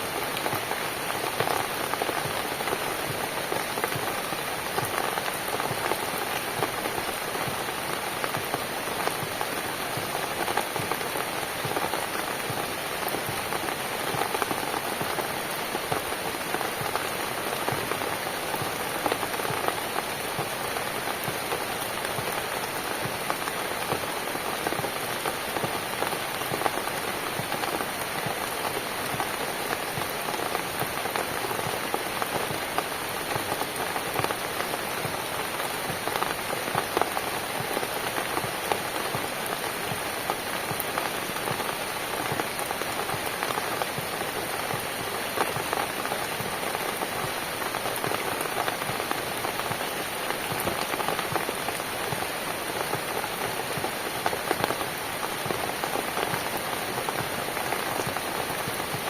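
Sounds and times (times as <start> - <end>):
rain falling on a cabin: 0.0 - 59.0.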